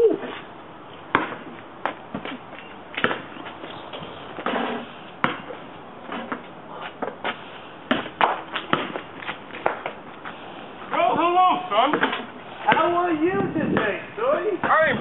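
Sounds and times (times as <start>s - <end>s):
basketball bouncing on asphalt: 1.0s - 11.1s, 11.8s - 14.0s.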